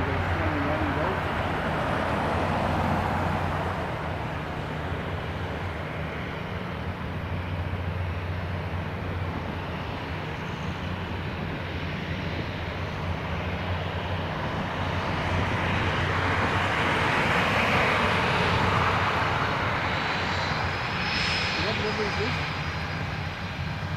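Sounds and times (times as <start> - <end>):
jet airliner engine hum: 0.0 - 23.9.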